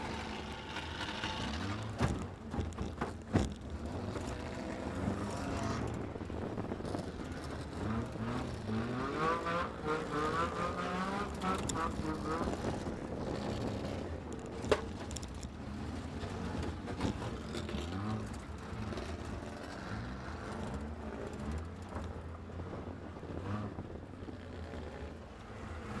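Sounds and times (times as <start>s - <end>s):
car engine running at low revs: 0.0s - 26.0s.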